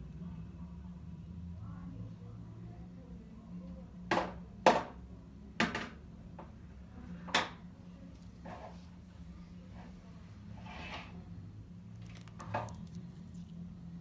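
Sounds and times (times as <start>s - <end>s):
low steady hum: 0.0s - 4.0s, 6.1s - 14.0s.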